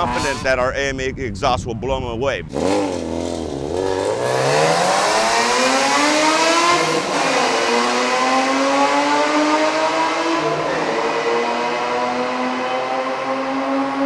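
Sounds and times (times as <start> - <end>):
car engine accelerating hard: 2.5 - 14.0.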